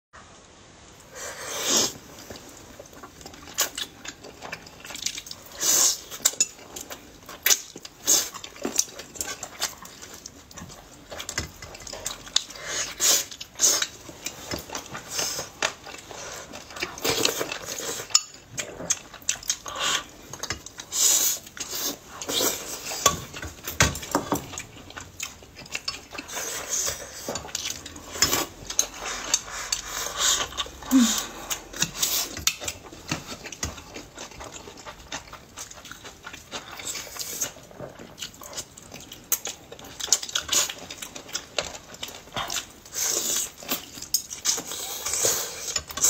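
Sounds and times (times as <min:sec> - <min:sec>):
chewing: 0:01.7 - 0:46.0.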